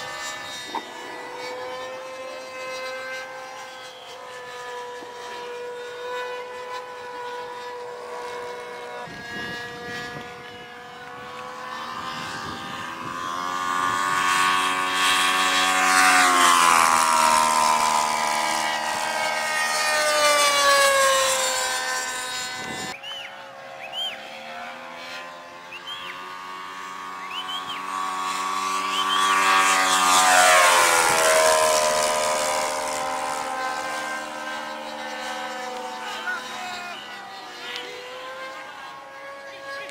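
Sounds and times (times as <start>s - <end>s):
model plane engine passing: 0.0s - 39.9s.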